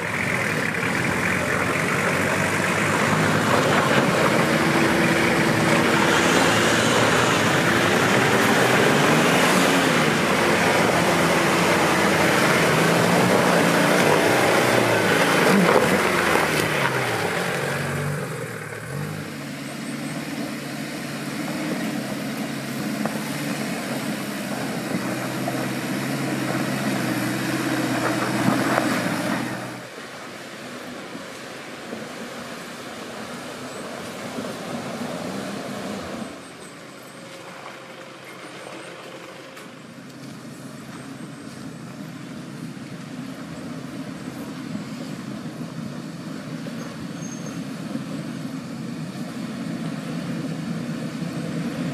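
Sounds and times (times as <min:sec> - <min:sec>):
off-road vehicle engine under load: 0:00.0 - 0:51.9.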